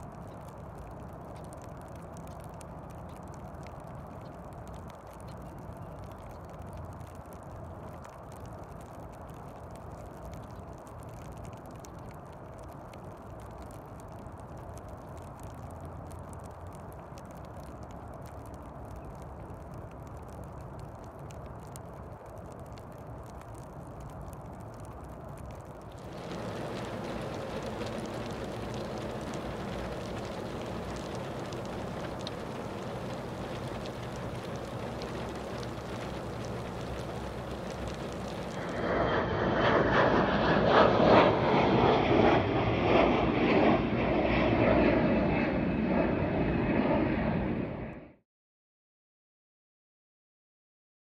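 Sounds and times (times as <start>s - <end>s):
jet airliner rumble: 0.0s - 48.2s.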